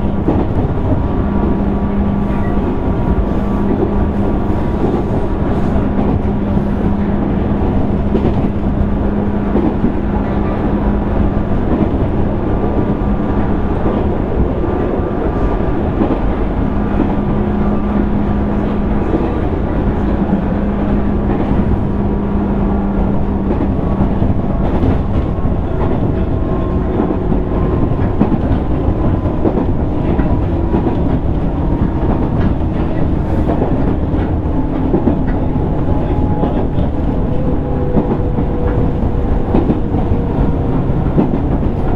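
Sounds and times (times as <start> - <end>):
wheels rumbling on rail: 0.0 - 41.9.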